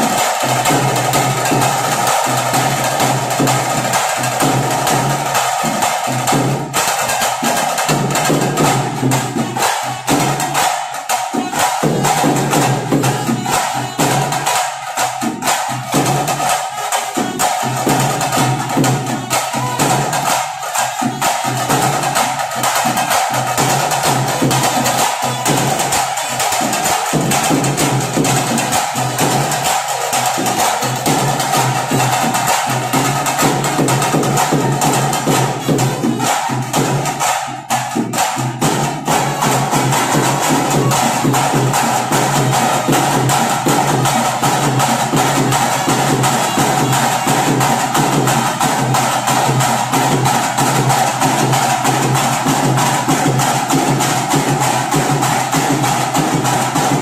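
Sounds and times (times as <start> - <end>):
loud live drumming: 0.0 - 57.0.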